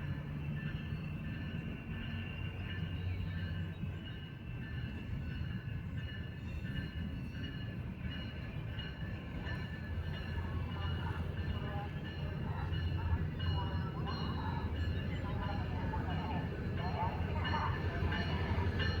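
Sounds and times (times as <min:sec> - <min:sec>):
passenger train rumbling on rails: 0:00.0 - 0:19.0.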